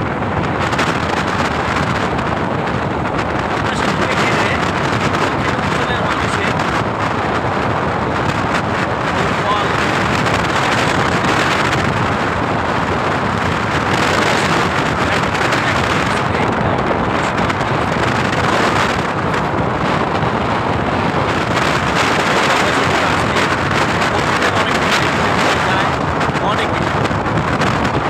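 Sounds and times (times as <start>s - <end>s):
road noise inside vehicle: 0.0s - 28.0s
wind rushing over microphone: 0.0s - 28.0s.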